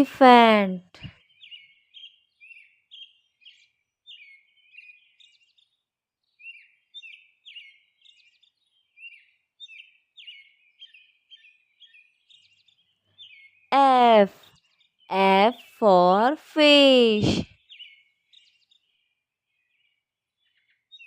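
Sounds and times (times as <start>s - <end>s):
birds chirping quietly: 0.0s - 21.0s.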